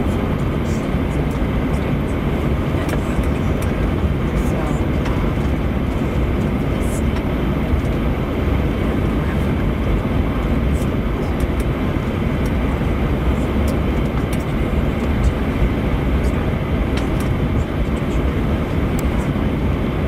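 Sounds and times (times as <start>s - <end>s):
jet engines idling rumble and hiss: 0.0s - 20.0s.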